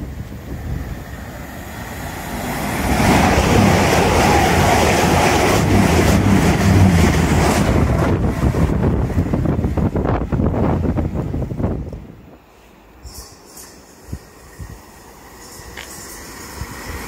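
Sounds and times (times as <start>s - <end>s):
diesel train passing: 0.0s - 17.0s.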